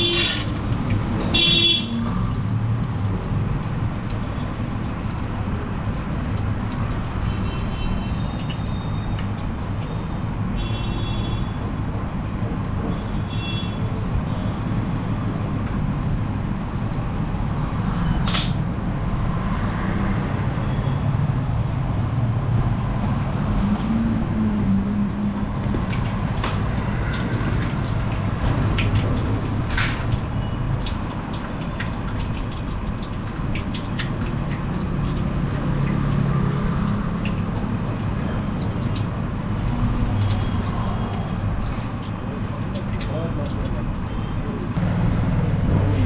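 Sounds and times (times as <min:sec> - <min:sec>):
low rumble of vehicles running: 0:00.0 - 0:46.0.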